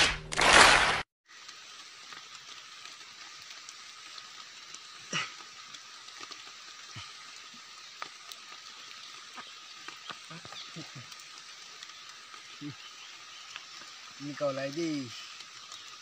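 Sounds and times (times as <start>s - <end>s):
outdoor hiss: 1.3s - 16.0s.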